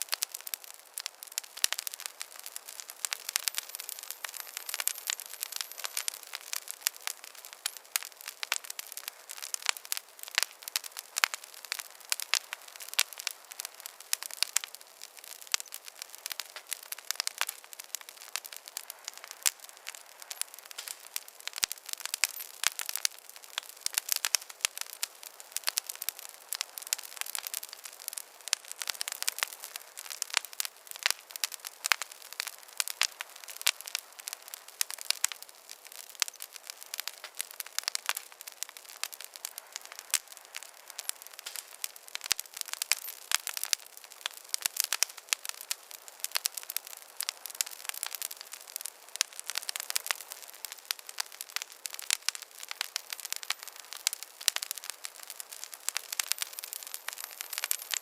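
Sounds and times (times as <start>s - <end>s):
campfire crackling and popping: 0.0s - 58.0s
faint fire hiss: 0.0s - 58.0s.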